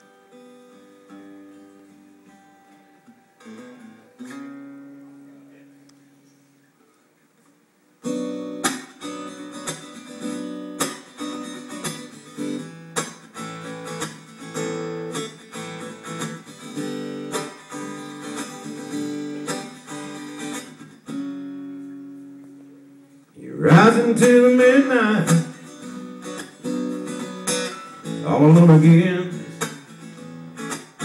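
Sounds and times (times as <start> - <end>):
acoustic guitar strumming chords: 0.0 - 6.9, 8.0 - 31.0.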